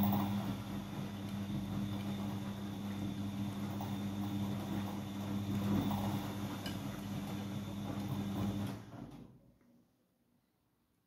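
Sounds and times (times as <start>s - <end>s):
motor hum: 0.0s - 9.0s
washing machine drum turning: 0.0s - 9.0s.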